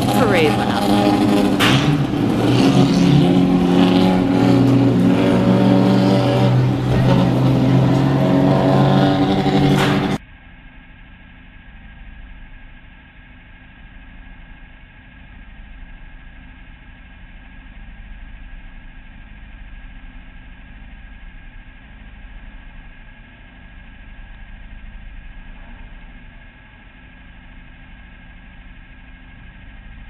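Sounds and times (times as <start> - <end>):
race car engine idling: 0.0 - 30.0.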